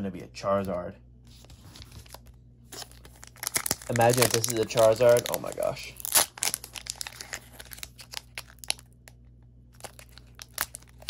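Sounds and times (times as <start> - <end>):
foil wrapper crinkling: 1.5 - 11.0.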